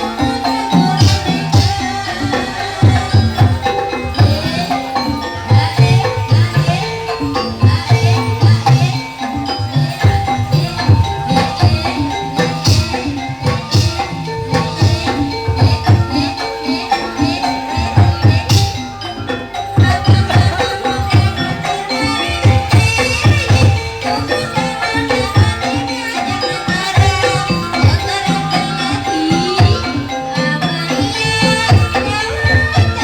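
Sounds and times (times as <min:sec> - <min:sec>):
hand drums beating: 0:00.0 - 0:33.0
ringing metallic tones: 0:00.0 - 0:33.0.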